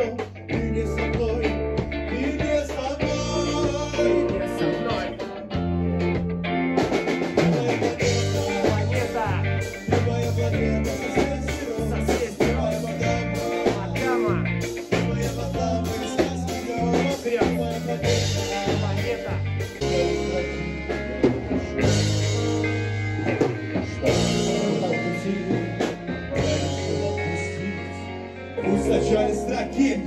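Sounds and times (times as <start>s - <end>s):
bass guitar notes: 0.0s - 30.0s
drums: 0.0s - 30.0s
guitar: 0.0s - 30.0s.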